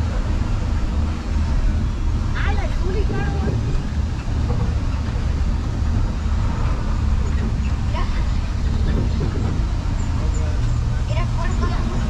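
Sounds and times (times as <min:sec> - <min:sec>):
tram engine and wheels rumbling: 0:00.0 - 0:12.0.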